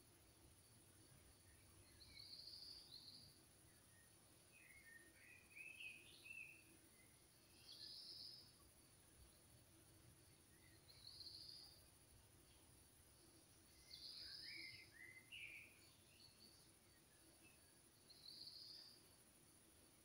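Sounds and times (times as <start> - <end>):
faint bird chirps: 0.0 - 20.0
steady high hiss: 0.0 - 20.0.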